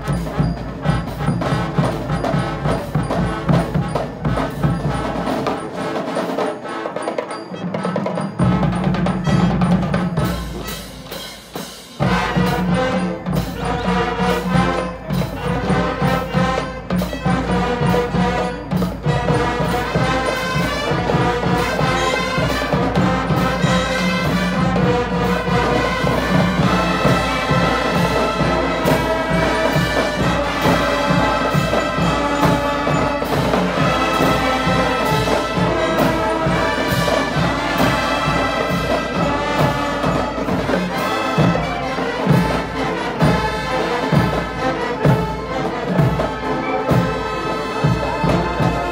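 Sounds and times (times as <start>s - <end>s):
steady drum beat: 0.0s - 6.8s, 7.8s - 48.9s
marching band playing: 0.0s - 48.9s.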